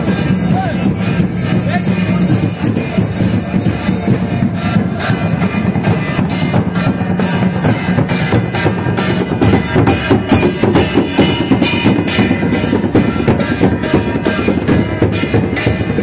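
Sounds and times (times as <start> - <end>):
barrel drums beaten with sticks: 0.0 - 16.0.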